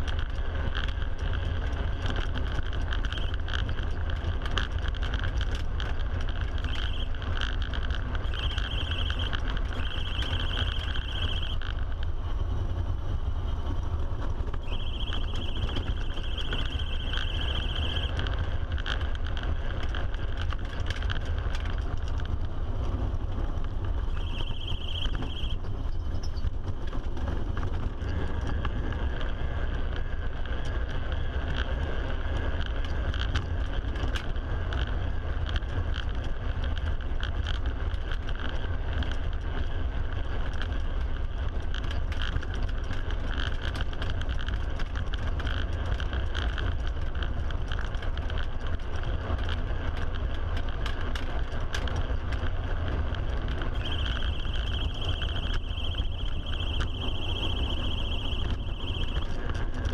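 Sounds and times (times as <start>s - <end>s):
low rumble of tyres on road: 0.0s - 59.9s
small ticks and rattles: 0.0s - 59.9s.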